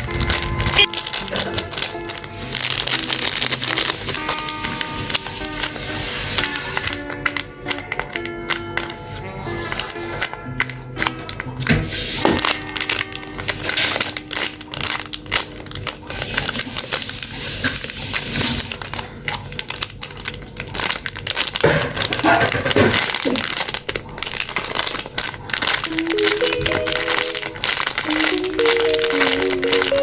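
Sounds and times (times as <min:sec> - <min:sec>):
crinkling squishy toys: 0:00.0 - 0:30.0
faint background music: 0:00.0 - 0:30.0.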